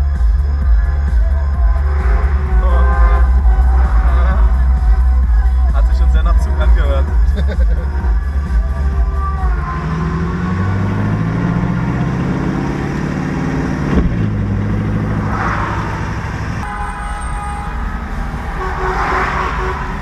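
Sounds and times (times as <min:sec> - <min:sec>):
car horn: 0:00.0 - 0:12.6, 0:15.5 - 0:20.0
car engine accelerating: 0:00.0 - 0:16.7.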